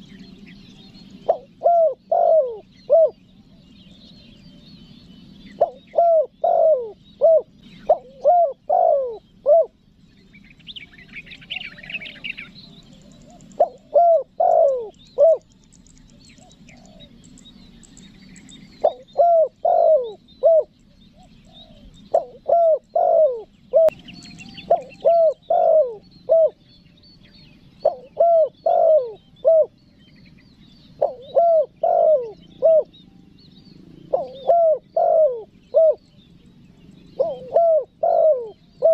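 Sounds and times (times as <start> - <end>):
dove cooing: 0.0 - 4.6, 5.4 - 26.6, 27.8 - 30.0, 30.8 - 32.9, 34.0 - 36.5, 37.1 - 38.9
small birds chirping: 0.0 - 38.9.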